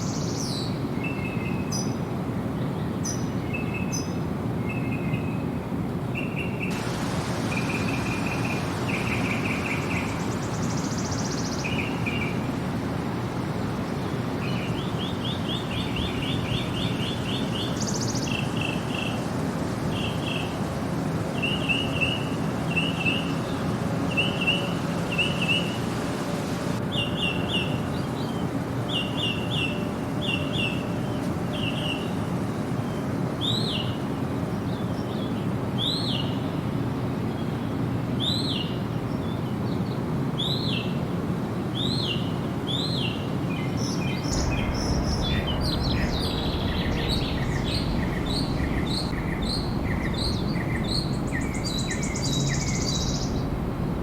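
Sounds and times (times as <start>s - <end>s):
low rushing background noise: 0.0s - 39.4s, 40.0s - 54.0s
songbirds chirping: 6.2s - 54.0s.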